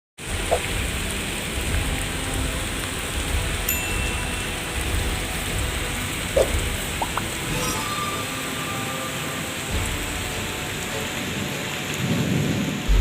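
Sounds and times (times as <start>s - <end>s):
heavy rain pouring: 0.2s - 13.0s.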